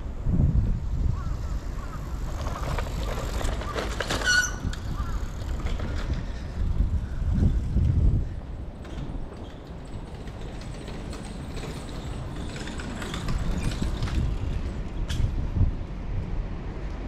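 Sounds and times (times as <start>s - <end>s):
wind rumble: 0.0s - 17.0s.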